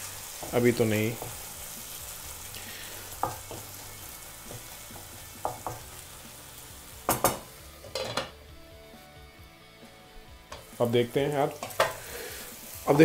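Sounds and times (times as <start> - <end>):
masala sizzling in a pan: 0.0 - 13.0.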